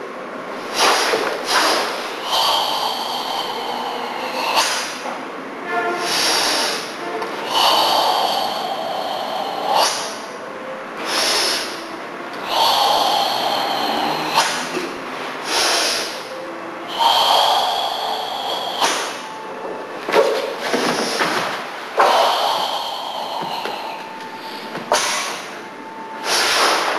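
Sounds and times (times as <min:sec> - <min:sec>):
deep forced breathing: 0:00.0 - 0:26.9.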